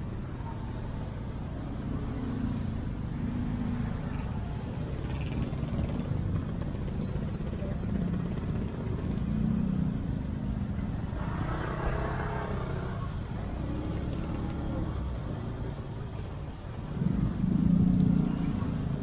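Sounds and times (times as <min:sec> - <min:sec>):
motor scooter engines: 0:00.0 - 0:19.0
slow car traffic: 0:00.0 - 0:19.0.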